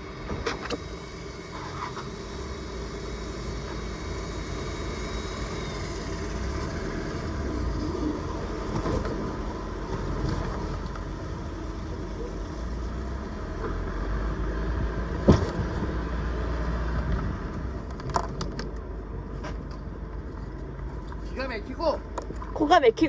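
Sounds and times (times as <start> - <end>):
jet ski engine running: 0.0 - 23.0.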